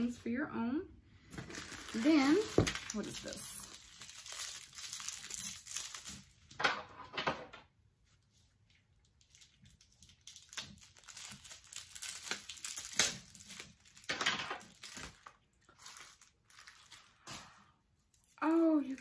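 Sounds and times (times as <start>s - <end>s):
bubble wrap crinkling: 1.3s - 6.6s, 8.1s - 19.0s.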